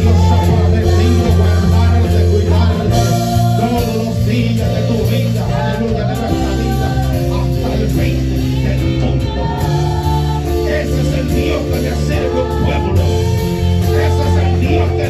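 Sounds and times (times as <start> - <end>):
worship band music: 0.0 - 15.0.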